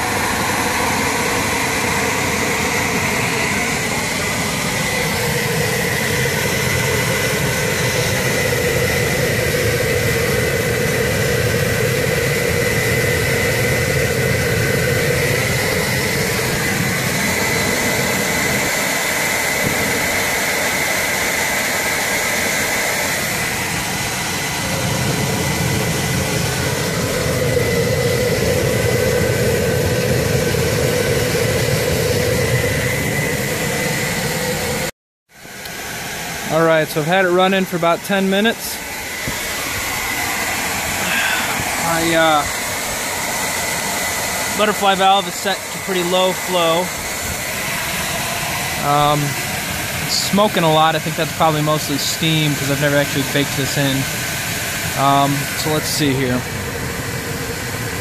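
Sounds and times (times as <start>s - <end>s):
hair dryer high whine: 0.0s - 58.0s
rush of air and burner flame: 0.0s - 58.0s.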